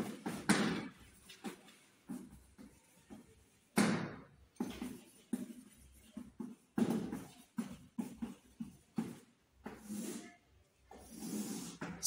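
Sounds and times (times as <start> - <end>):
chalk tapping and scraping on blackboard: 0.0 - 12.0.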